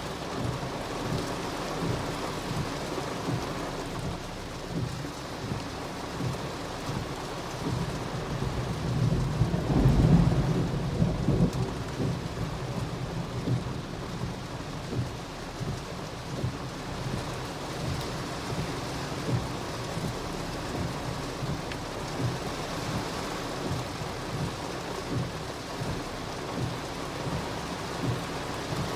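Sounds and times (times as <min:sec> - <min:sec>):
heavy rain on car roof: 0:00.0 - 0:28.9
low rumble: 0:00.4 - 0:28.9.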